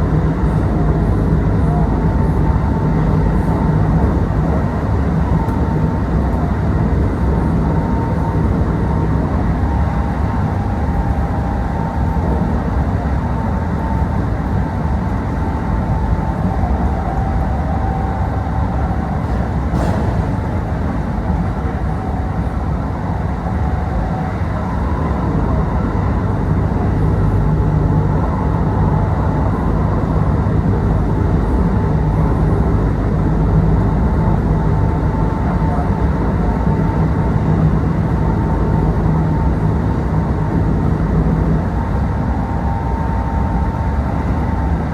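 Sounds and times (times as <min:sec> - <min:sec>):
faint train whine: 0:00.0 - 0:44.9
train wheels rumbling on rail: 0:00.0 - 0:44.9.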